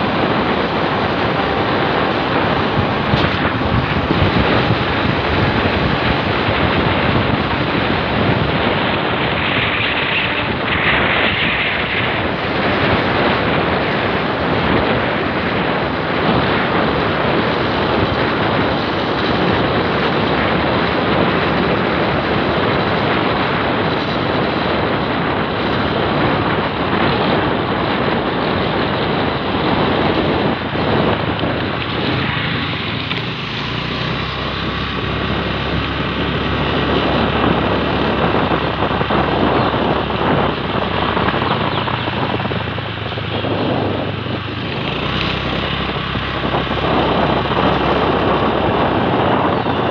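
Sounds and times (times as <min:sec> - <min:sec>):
motorbike engine and tyre noise: 0:00.0 - 0:49.9
wind on microphone: 0:00.0 - 0:49.9.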